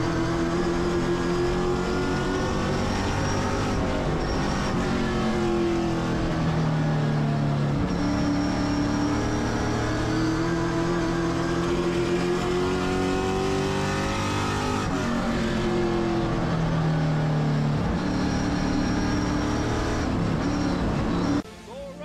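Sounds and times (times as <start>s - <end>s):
race car engine revving: 0.0s - 21.4s.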